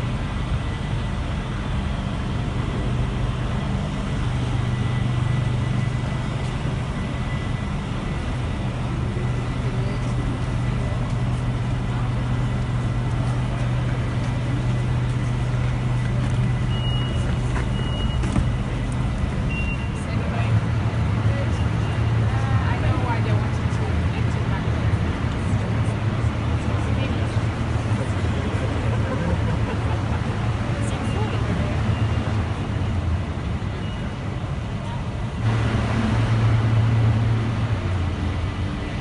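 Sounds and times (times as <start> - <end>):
machinery hum with high whine: 0.0 - 39.0.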